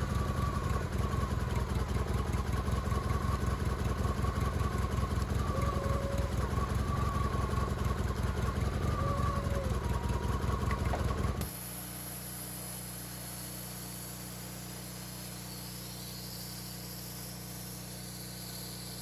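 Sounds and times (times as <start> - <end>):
small engine pulsing: 0.0 - 19.0.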